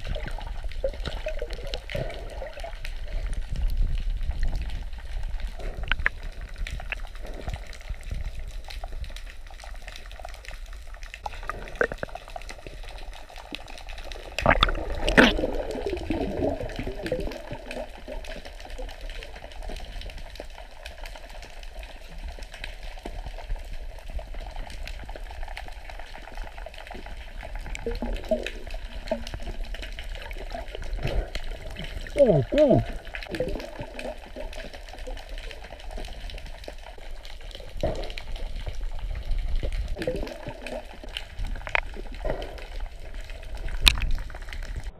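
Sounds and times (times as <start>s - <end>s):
muffled underwater rumble: 0.0s - 44.9s
rush of bubbling water: 0.0s - 44.9s
small clicks and bubbling: 0.0s - 44.9s.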